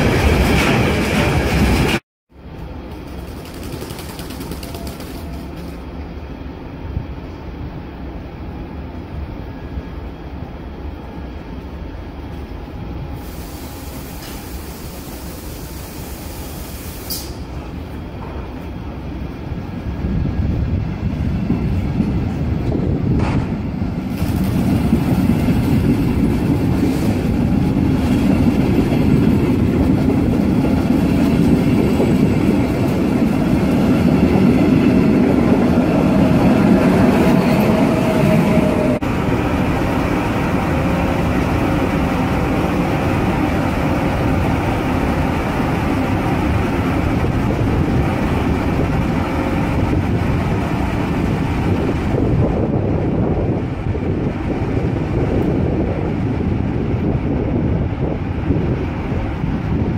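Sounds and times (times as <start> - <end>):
electric locomotive whining: 0.0 - 59.9
passenger train rolling past: 0.0 - 59.9.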